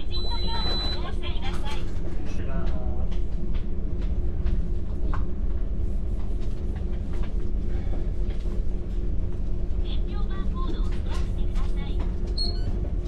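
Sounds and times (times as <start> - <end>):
ship engines rumbling: 0.0 - 13.0.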